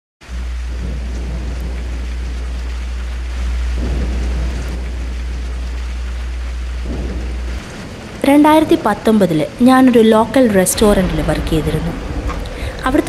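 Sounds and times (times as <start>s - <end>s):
deep thunder rumble: 0.2s - 13.0s
rain hiss: 0.2s - 13.0s.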